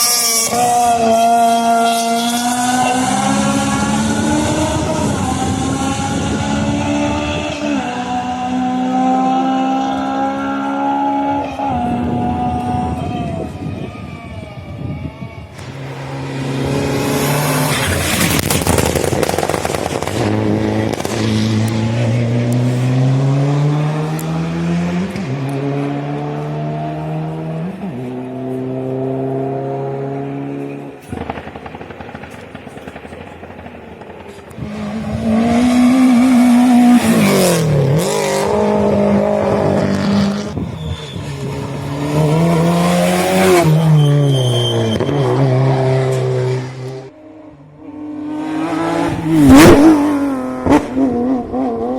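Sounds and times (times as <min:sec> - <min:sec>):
race car engine at full throttle: 0:00.0 - 0:51.9.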